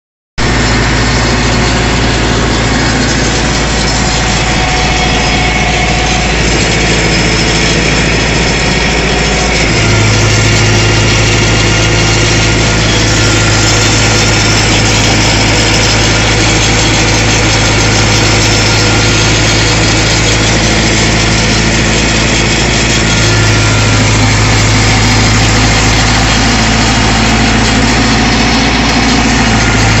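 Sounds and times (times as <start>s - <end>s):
tractor diesel engine hum: 0.4s - 30.0s.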